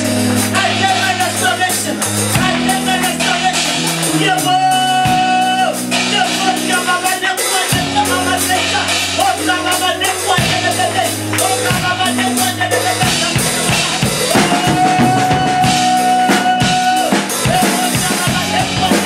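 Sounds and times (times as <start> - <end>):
drum kit beat: 0.0 - 19.0.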